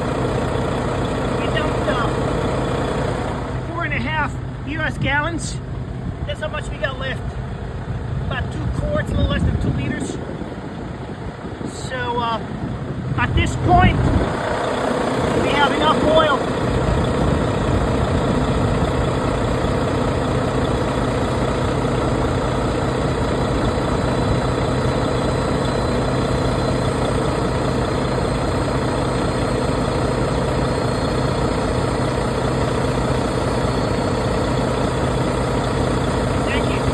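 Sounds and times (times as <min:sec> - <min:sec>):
truck diesel engine idling: 0:00.0 - 0:36.9.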